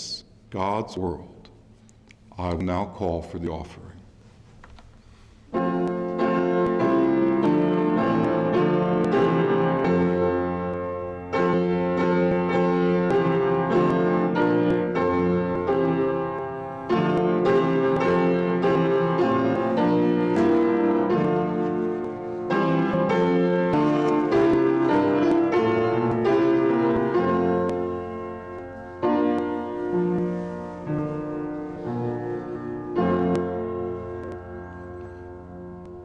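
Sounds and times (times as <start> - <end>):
slow piano piece: 0.0 - 36.0.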